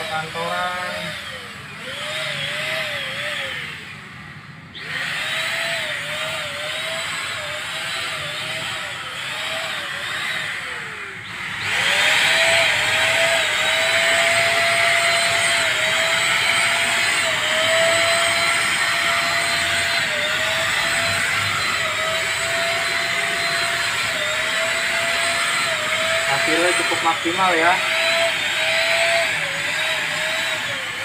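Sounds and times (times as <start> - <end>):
spray gun motor whining: 0.0 - 31.0.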